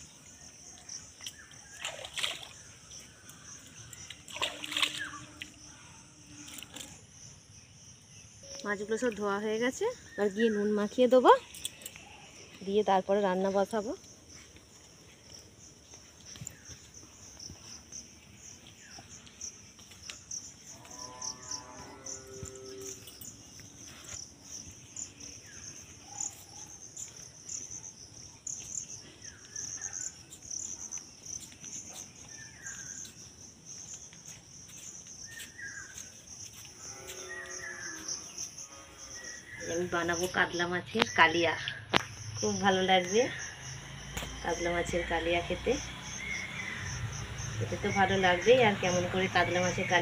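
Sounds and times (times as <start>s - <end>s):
insects chirring: 0.0s - 50.0s.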